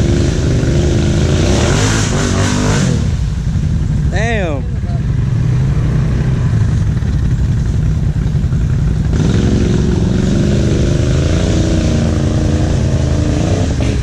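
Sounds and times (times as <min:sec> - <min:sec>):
atv engine revving: 0:00.0 - 0:14.0
atv engines running: 0:00.0 - 0:14.0.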